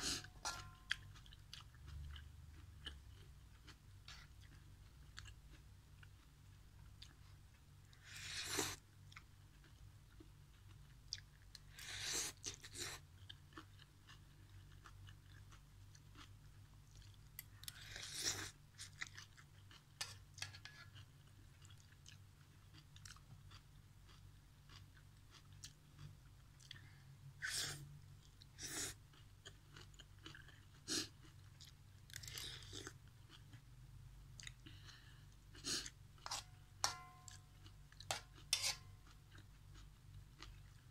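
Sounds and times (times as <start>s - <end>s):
chewing: 0.0s - 7.4s, 8.6s - 27.0s, 27.7s - 33.7s, 34.4s - 40.9s.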